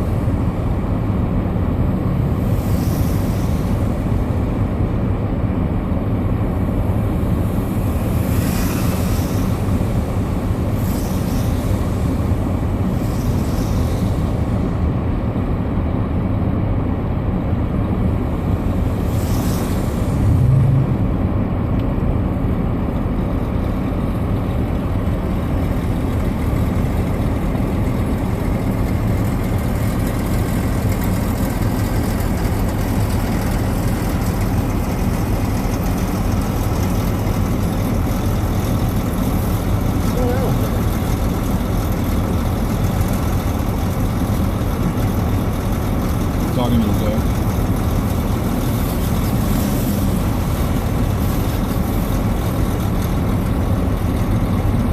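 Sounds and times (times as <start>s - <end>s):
car engine and tyres rumbling: 0.0s - 54.9s.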